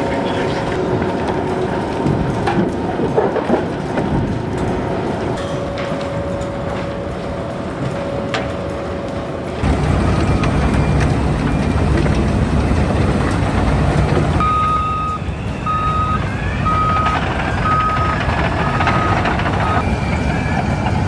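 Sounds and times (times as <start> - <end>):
heavy vehicle engine rumble: 0.0 - 21.0.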